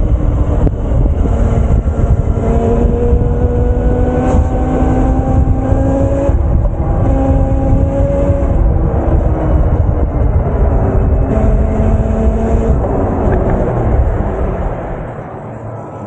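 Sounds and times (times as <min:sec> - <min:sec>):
wind rush on microphone: 0:00.0 - 0:15.4.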